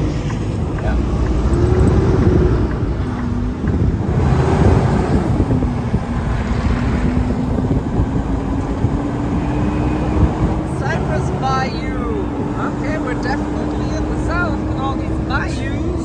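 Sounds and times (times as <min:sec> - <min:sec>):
truck engine rumble while driving: 0:00.0 - 0:16.0.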